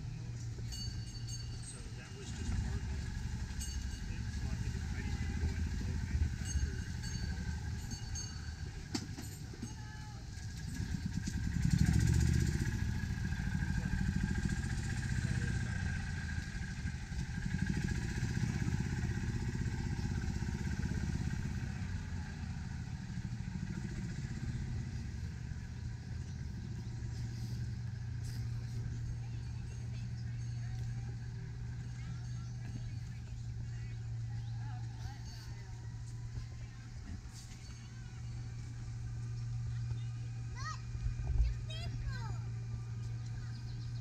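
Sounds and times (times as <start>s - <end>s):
utility cart engine rumbling: 0.0s - 44.0s.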